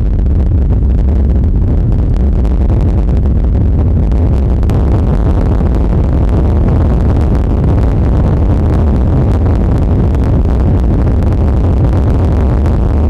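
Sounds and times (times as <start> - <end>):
car rumbling on dirt road: 0.0 - 13.0.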